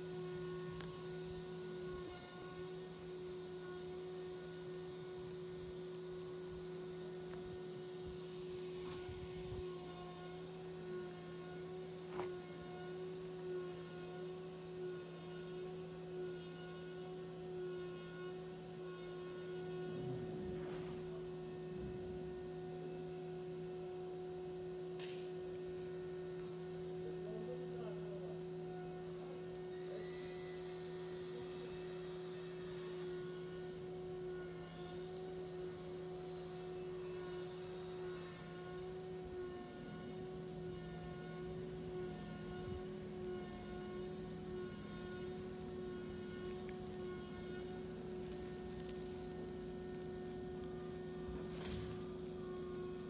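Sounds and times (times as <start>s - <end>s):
insects buzzing in flight: 0.0s - 53.0s
steady low hum: 0.0s - 53.0s
soft crackle: 0.1s - 53.0s.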